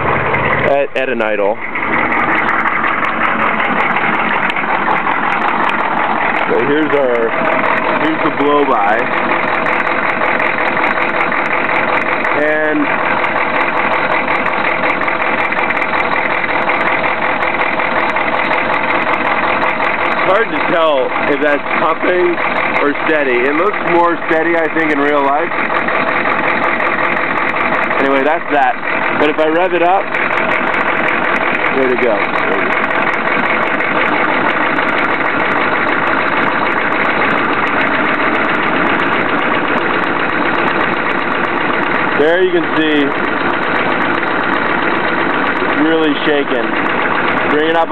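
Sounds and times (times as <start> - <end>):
diesel engine idling rough: 0.0 - 47.9.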